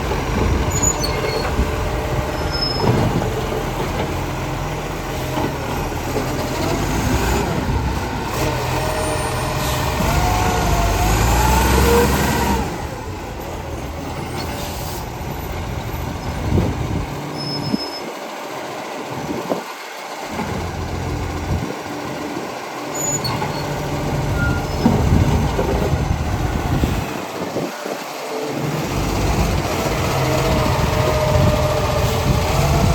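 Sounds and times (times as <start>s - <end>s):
garbage truck engine running: 0.0s - 32.9s.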